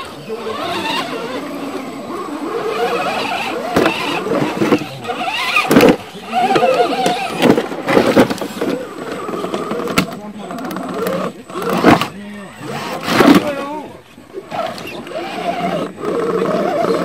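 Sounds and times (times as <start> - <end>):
electric motor and gear whine: 0.0 - 17.0.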